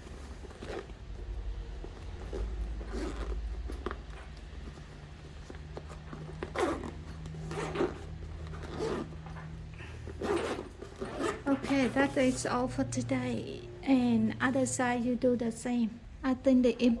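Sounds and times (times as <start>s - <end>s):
zipper rasping: 0.0s - 15.2s.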